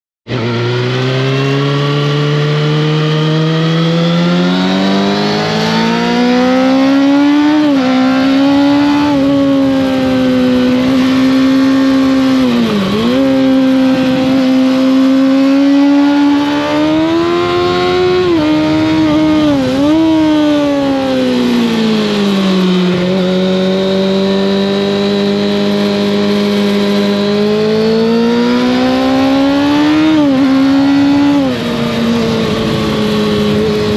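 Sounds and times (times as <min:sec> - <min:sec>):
motorcycle engine revving: 0:00.3 - 0:33.9.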